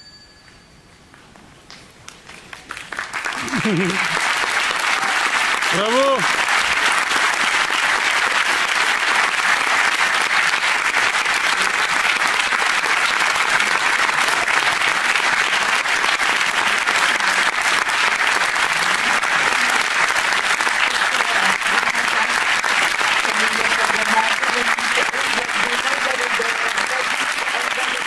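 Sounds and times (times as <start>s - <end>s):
audience applauding: 2.1s - 28.0s.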